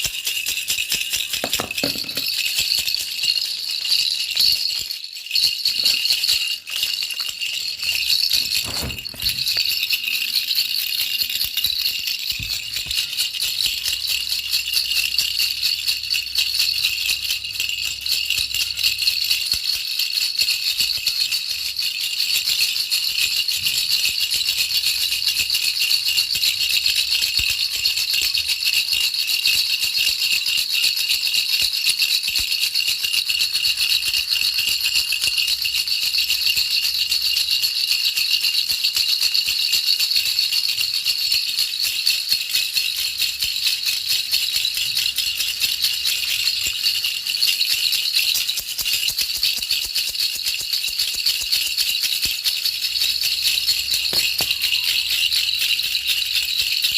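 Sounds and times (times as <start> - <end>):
baby rattle shaking: 0.0 - 56.9.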